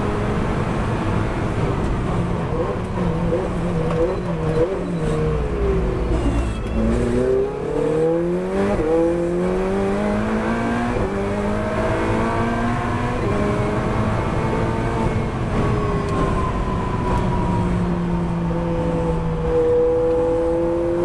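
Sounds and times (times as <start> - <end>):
car engine revving through gears: 0.0 - 21.0.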